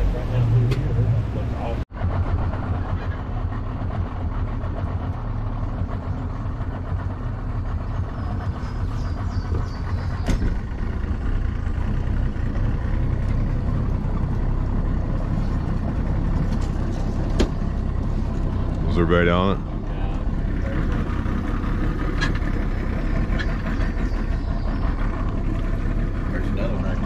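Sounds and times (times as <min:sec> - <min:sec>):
outboard motor idling: 0:00.0 - 0:27.0.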